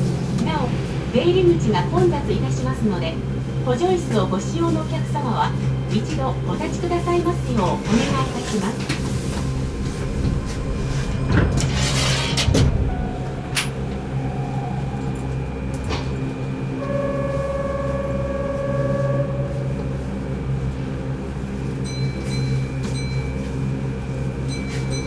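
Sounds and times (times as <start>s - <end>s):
stopped train humming: 0.0s - 25.0s.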